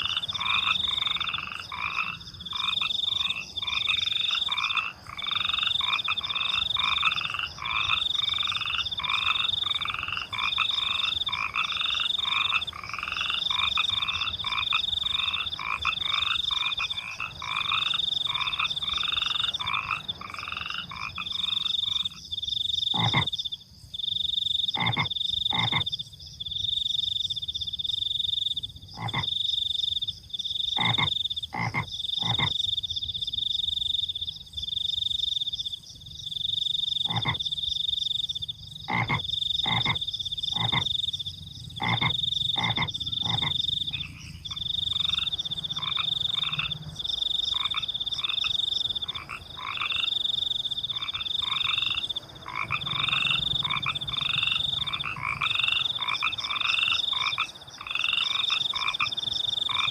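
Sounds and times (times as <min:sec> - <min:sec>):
fast falling frog calls: 0:00.0 - 0:26.1, 0:26.7 - 0:59.9
crickets trilling: 0:00.0 - 0:59.9
frogs croaking: 0:00.0 - 0:59.9.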